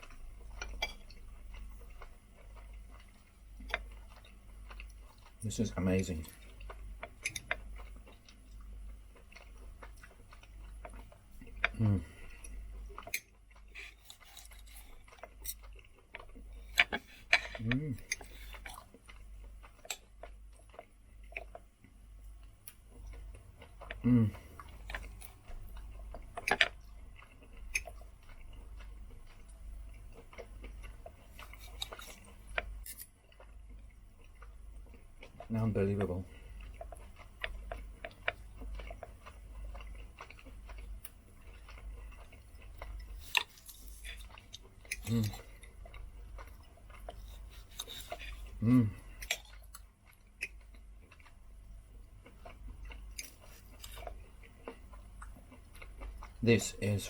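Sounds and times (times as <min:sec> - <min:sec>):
low steady hum: 0:00.0 - 0:57.0
person chewing: 0:00.0 - 0:57.0.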